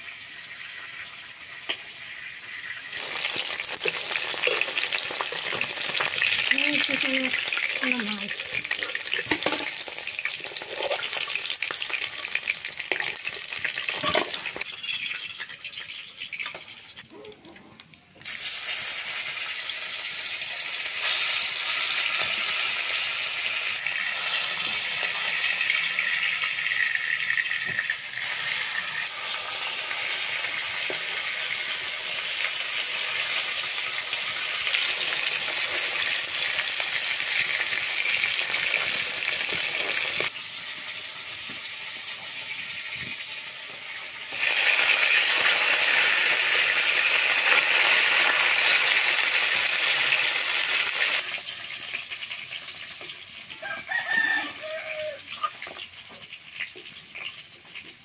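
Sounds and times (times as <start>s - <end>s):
fish sizzling in hot oil: 0.0s - 17.0s, 18.2s - 58.0s.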